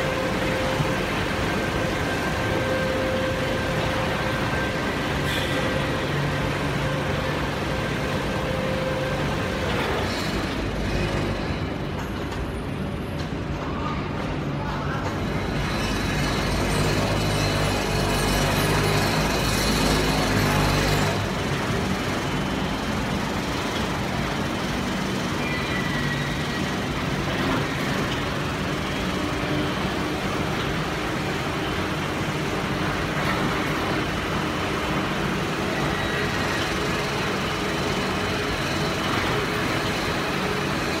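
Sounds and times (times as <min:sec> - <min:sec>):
machinery running: 0:00.0 - 0:13.3, 0:15.1 - 0:41.0.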